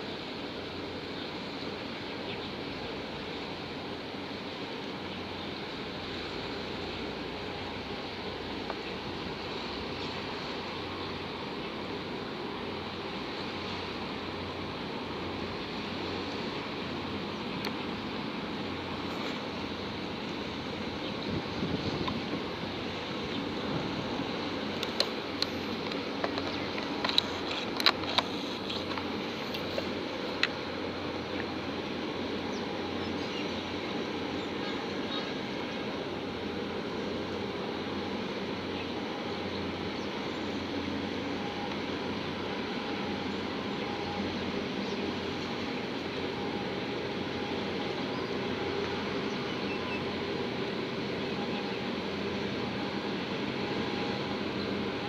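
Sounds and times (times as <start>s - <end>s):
ship machinery hum and rumble: 0.0s - 55.0s.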